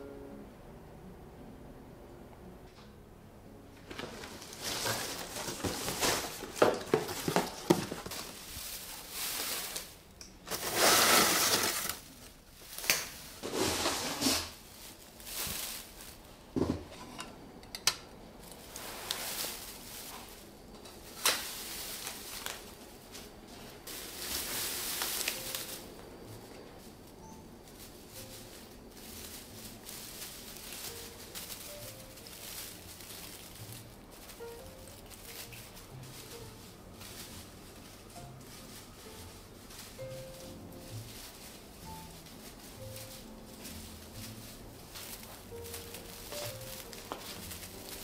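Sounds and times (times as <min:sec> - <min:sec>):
plastic branches rustling: 0:03.7 - 0:48.0.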